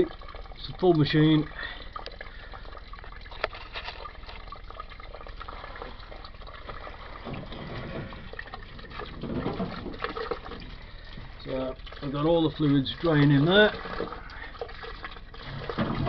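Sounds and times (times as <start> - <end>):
water pouring into a drain: 0.0 - 16.0.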